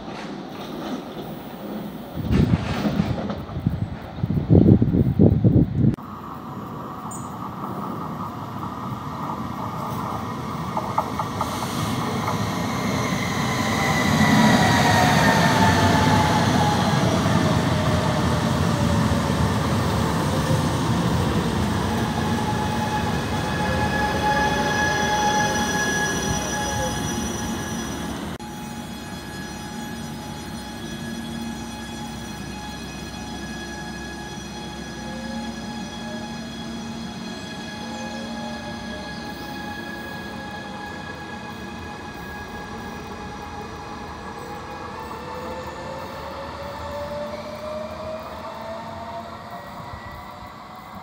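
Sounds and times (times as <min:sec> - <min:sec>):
train wheels rumbling on rails: 0:00.0 - 0:06.0, 0:06.7 - 0:51.0.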